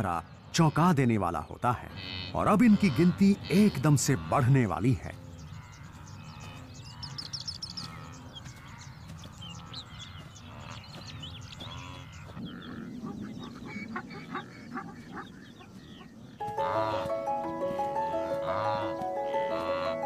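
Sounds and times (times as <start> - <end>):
wildebeest honking grunts: 1.8 - 7.2, 7.8 - 15.4, 16.0 - 20.0.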